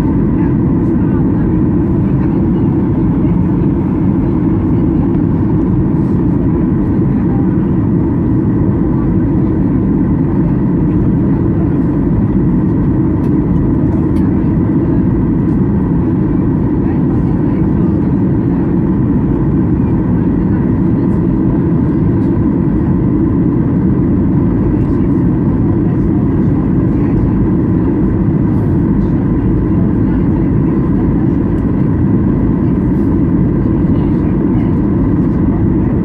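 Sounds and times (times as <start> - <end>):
airliner engine and airflow noise: 0.0 - 36.0.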